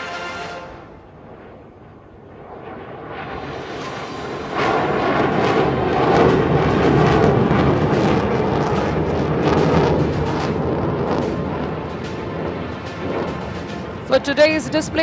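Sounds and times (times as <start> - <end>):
jet engine roar with crackling: 0.0 - 15.0.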